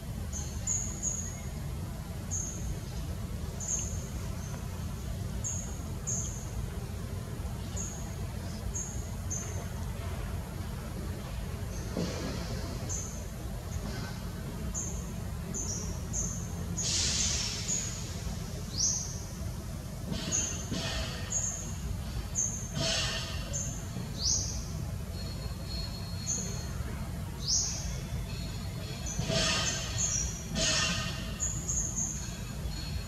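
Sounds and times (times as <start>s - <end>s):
birds chirping: 0.1s - 19.5s, 20.1s - 33.0s.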